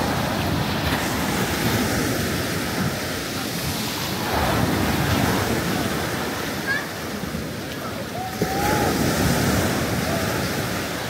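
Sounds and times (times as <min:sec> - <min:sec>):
sea waves washing onto beach: 0:00.0 - 0:11.0
wind buffeting microphone: 0:00.0 - 0:11.0.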